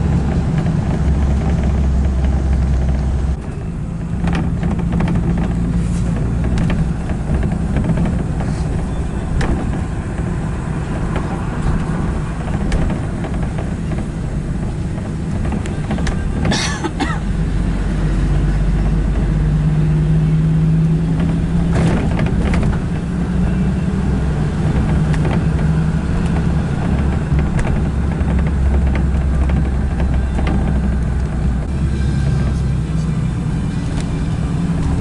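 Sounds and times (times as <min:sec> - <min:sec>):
car engine hum: 0:00.0 - 0:35.0
road rumble: 0:00.0 - 0:35.0.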